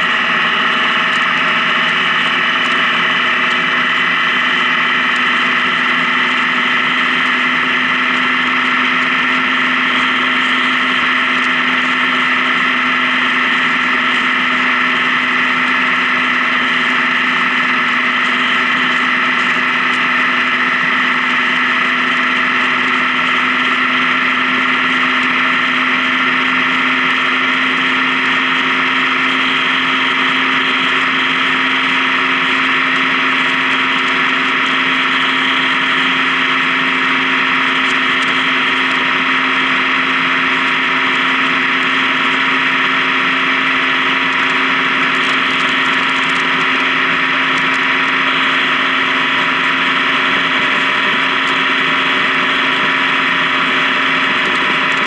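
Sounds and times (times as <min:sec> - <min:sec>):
motorcycle engine drone: 0:00.0 - 0:55.0
wind and road noise: 0:00.0 - 0:55.0.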